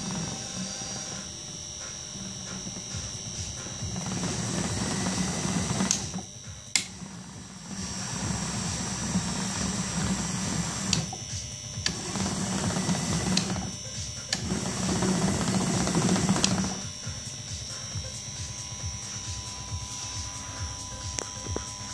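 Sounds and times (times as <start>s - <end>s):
motor humming: 0.0s - 21.9s.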